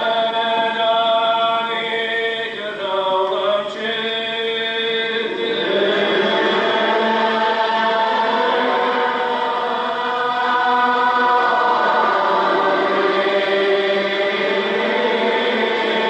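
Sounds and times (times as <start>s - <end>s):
congregation singing unaccompanied: 0.0s - 16.0s.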